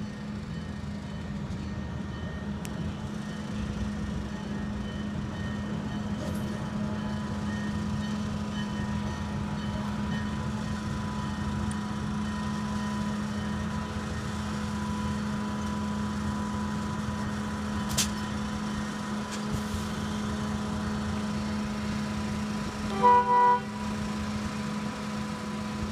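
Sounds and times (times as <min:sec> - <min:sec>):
diesel engines low drone: 0:00.0 - 0:25.9.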